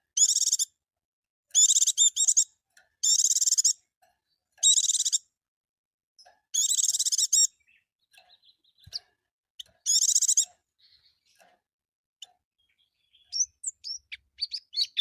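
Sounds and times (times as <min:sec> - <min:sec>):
bird singing trilled phrases: 0:00.1 - 0:00.7, 0:01.5 - 0:05.3, 0:06.2 - 0:11.5, 0:12.2 - 0:15.0.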